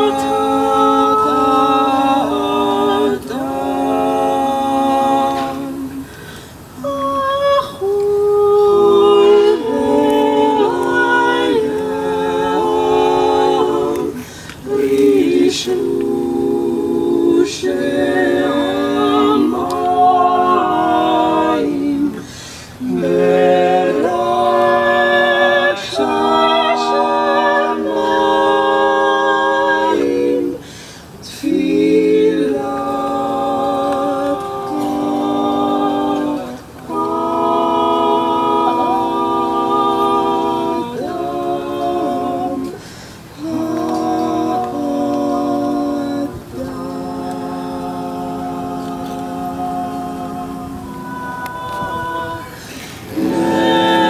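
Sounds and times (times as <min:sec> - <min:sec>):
person singing unaccompanied: 0:00.0 - 0:54.0.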